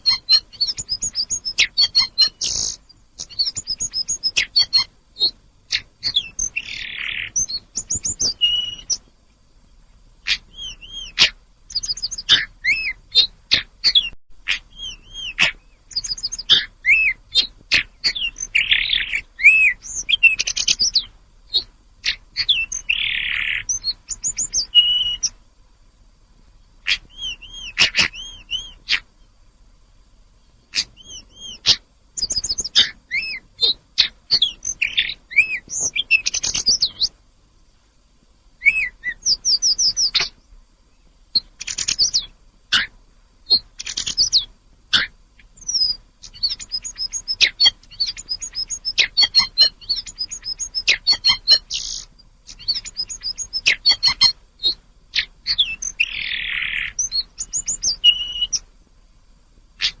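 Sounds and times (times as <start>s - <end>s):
bird singing: 0.0s - 25.5s, 26.5s - 37.8s, 38.5s - 58.7s, 59.8s - 60.0s.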